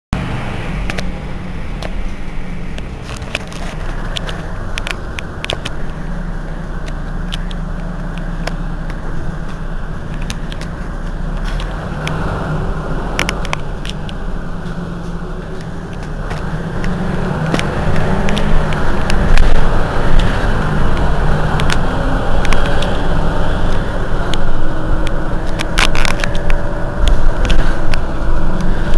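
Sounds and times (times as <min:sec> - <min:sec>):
bus engine idling: 0:00.2 - 0:28.9.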